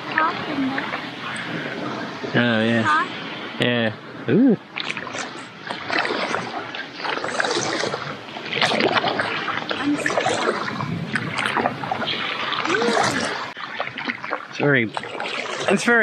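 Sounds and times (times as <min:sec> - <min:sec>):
paddle strokes splashing: 0:00.0 - 0:16.0
water sloshing along hull: 0:00.0 - 0:16.0.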